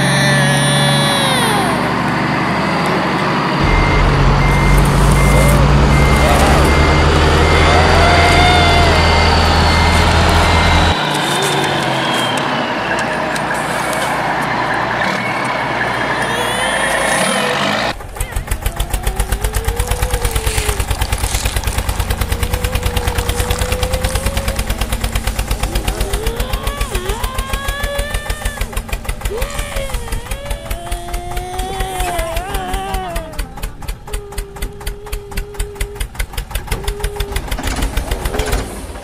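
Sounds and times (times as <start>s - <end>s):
heavy truck engine running: 0.0s - 39.0s
tractor diesel engine chugging: 0.0s - 39.0s.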